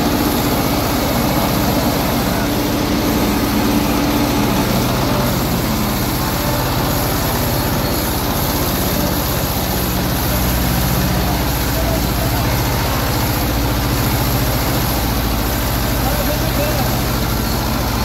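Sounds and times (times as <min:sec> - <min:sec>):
tractor engine under load: 0:00.0 - 0:18.0.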